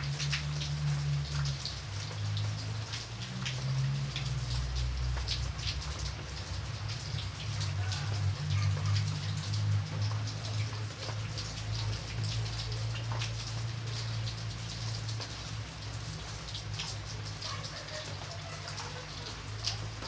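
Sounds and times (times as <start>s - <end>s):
raindrops striking a surface: 0.0s - 20.0s.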